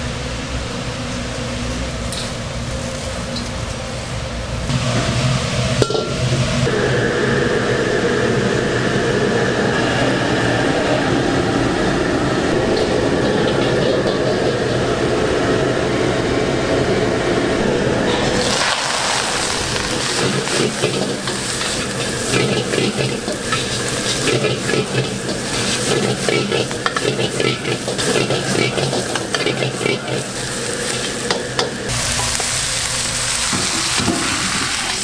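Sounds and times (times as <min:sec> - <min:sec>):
rushing watery kitchen noise: 0:00.0 - 0:35.0.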